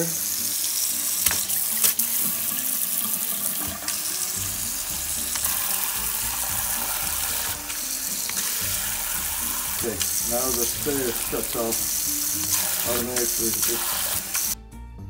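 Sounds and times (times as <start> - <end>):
faucet sprayer spraying into sink: 0.0 - 14.6.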